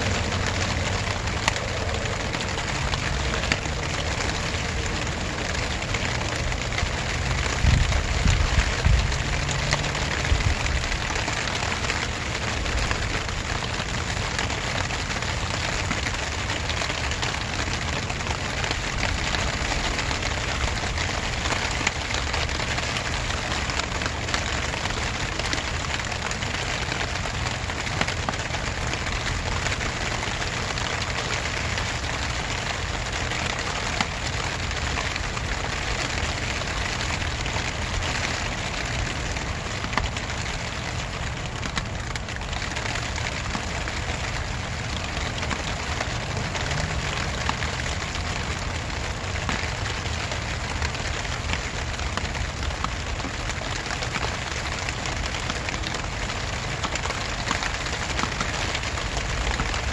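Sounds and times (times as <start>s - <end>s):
raindrop ticking: 0.0s - 59.9s
steady rain hissing: 0.0s - 59.9s.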